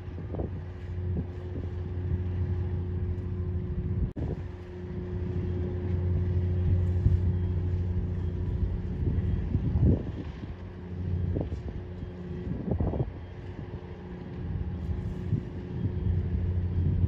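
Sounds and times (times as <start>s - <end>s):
faint constant hum: 0.0s - 17.0s
low engine drone: 0.0s - 17.0s.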